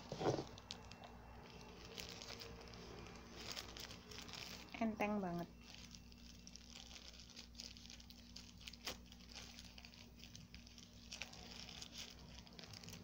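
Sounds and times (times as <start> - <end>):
wrapping rustling and crinkling: 0.0 - 13.0.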